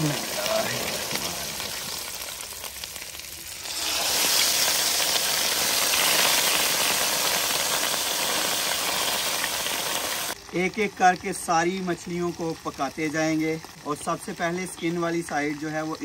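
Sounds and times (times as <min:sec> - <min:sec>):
fish sizzling in hot oil: 0:00.0 - 0:16.0.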